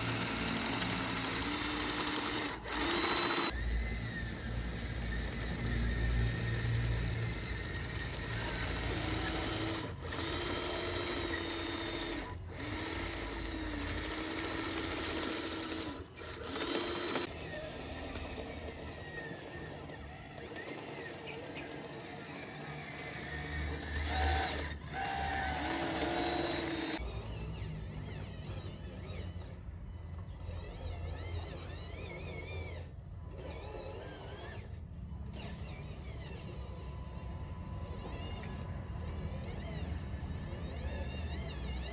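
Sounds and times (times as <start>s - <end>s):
small electric motor whining: 0.0s - 41.9s.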